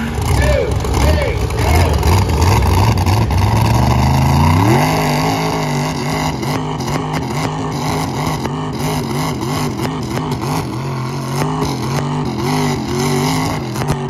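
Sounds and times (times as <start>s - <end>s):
truck engines straining under load: 0.0s - 14.0s.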